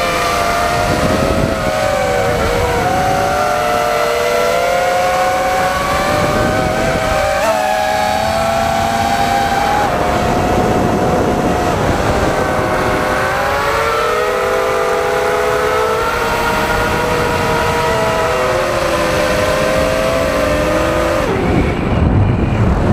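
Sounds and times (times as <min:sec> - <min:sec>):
drone motors and propellers whining: 0:00.0 - 0:22.9.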